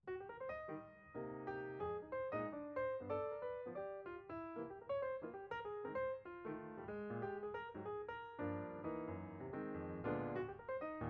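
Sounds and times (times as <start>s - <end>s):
piano music: 0.1s - 11.0s.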